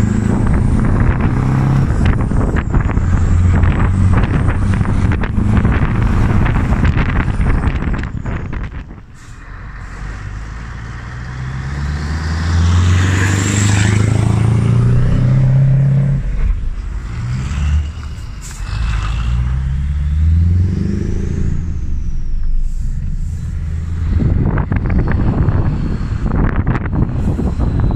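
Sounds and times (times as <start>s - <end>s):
diesel engine pulling hard: 0.0s - 27.9s.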